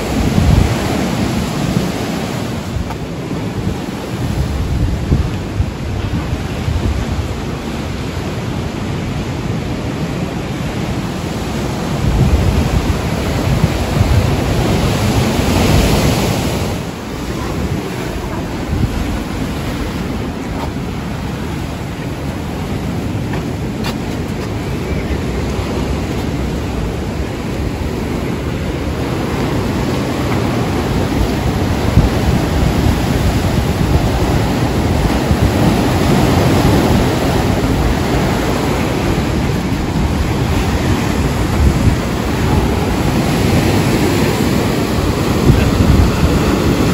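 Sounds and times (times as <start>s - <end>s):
surf breaking on rocks: 0.0s - 46.9s
wind buffeting microphone: 0.0s - 46.9s.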